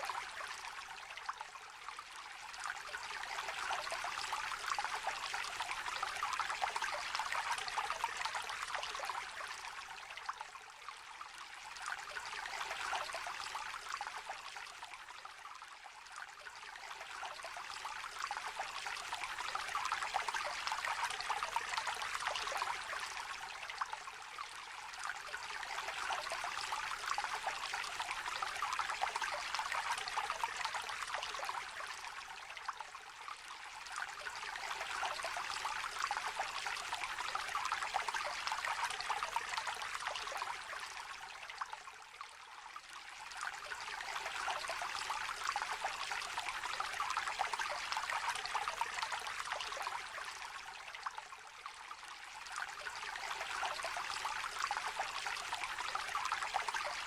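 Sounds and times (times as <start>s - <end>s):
stream trickling and babbling: 0.0s - 57.0s.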